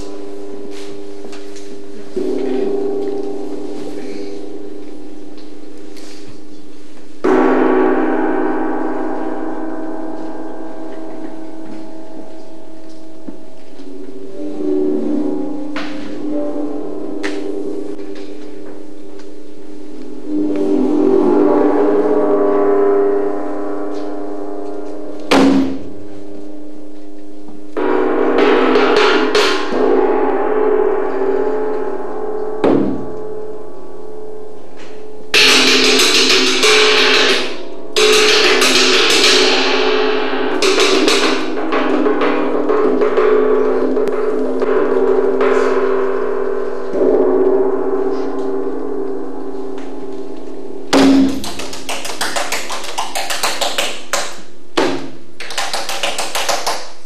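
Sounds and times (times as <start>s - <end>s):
gong-like struck metal ringing: 0.0s - 51.5s.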